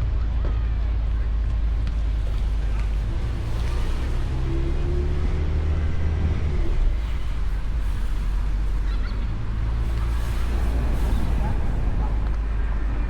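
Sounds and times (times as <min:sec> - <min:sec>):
car engine and road rumble: 0:00.0 - 0:13.0
pitched engine hum: 0:00.0 - 0:13.0.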